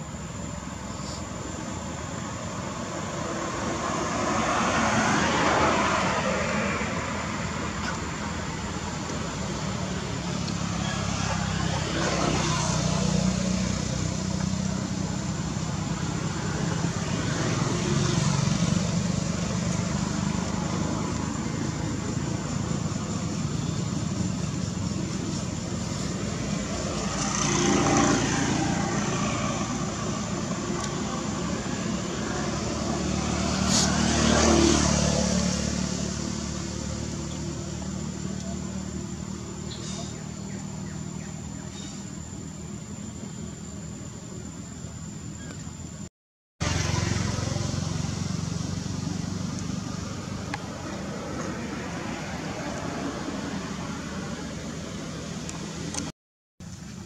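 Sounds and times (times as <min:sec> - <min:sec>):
low traffic engine hum: 0:00.0 - 0:57.0
vehicles passing: 0:00.0 - 0:57.0.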